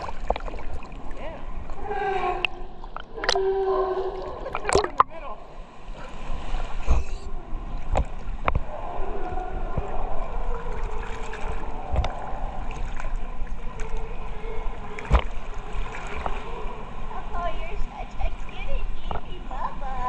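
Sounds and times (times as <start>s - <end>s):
water sloshing and lapping: 0.0s - 20.0s.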